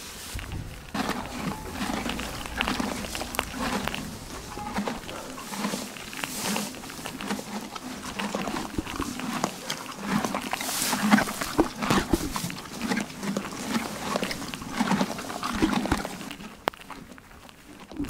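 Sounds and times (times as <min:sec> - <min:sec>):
horse chewing hay: 0:00.0 - 0:18.0.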